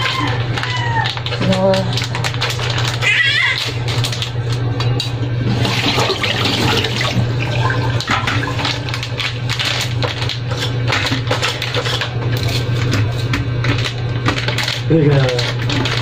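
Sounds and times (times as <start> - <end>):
plastic packet crinkling: 0.0 - 16.0.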